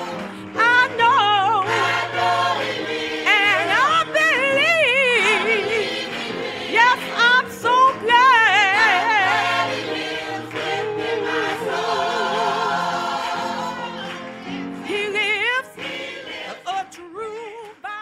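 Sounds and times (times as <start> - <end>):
gospel choir singing: 0.0 - 17.9.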